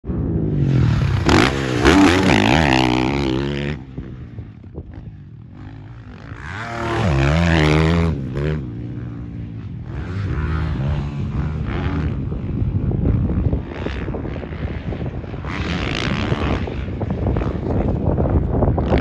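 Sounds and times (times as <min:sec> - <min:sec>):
dirt bike engine revving: 0:00.6 - 0:19.0.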